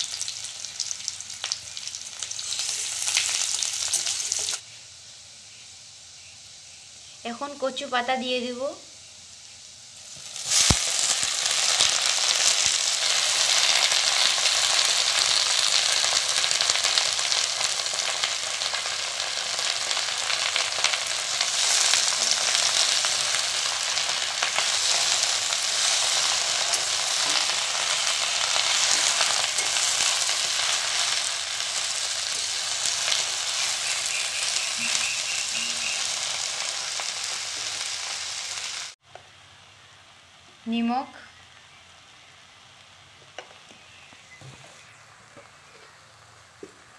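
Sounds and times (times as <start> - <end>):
leaves sizzling in hot oil: 0.0 - 46.9.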